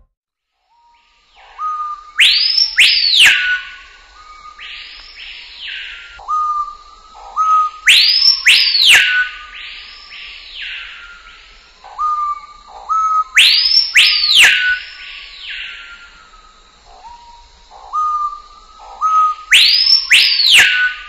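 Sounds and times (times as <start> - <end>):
sweeping whistles: 0.7 - 21.0.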